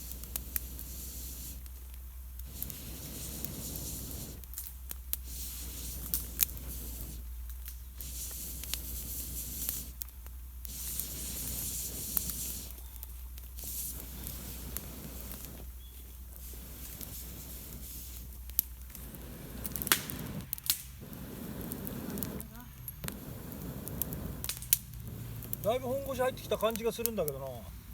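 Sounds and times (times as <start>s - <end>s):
damp wood crackling: 0.0s - 27.9s.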